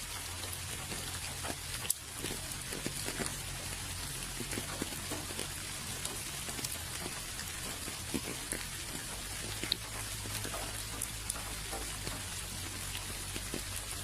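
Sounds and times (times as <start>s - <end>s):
raindrops tapping close by: 0.0s - 14.0s
steady rain hiss: 0.0s - 14.0s.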